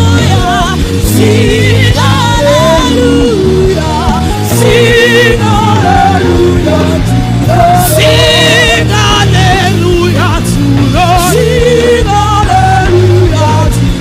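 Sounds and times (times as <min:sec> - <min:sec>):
gospel music with singing: 0:00.0 - 0:14.0.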